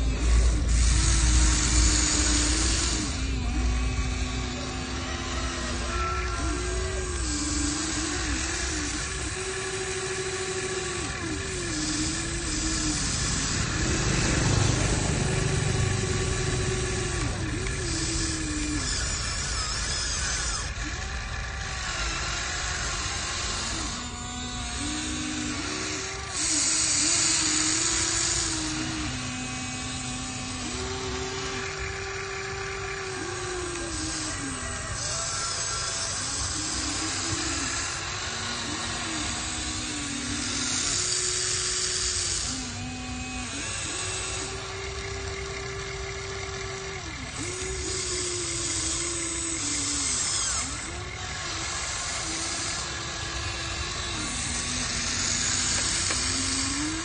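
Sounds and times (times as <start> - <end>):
gritty mechanical hiss: 0.0 - 57.0
small electric motors whining: 0.0 - 57.0.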